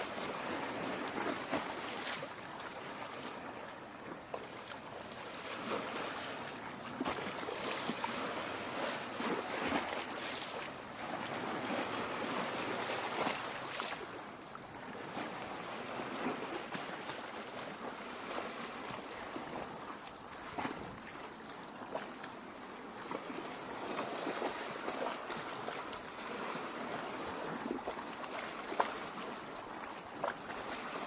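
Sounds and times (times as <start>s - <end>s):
lake water lapping at shore: 0.0s - 31.0s.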